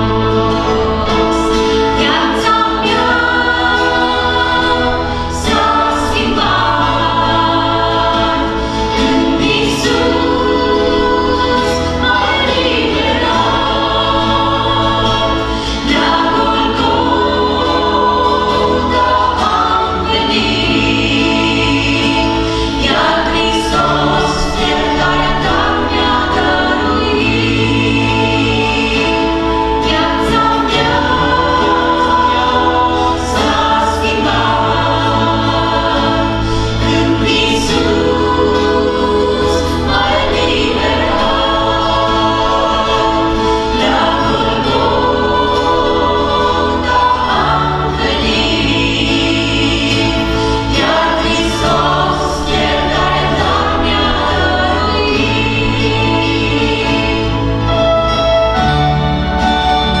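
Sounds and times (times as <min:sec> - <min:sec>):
group of women singing: 0:00.0 - 0:58.2
acoustic guitar: 0:00.0 - 1:00.0
electric bass: 0:00.0 - 1:00.0
keyboard: 0:00.0 - 1:00.0.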